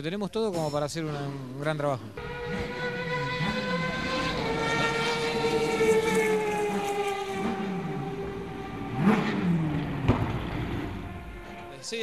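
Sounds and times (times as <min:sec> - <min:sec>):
race car engine passing: 0:02.2 - 0:12.0.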